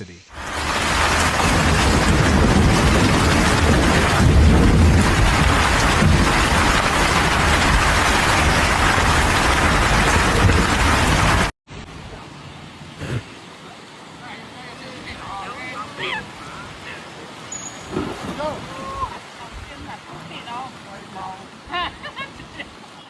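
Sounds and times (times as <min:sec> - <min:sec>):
heavy pouring rain: 0:00.3 - 0:23.0.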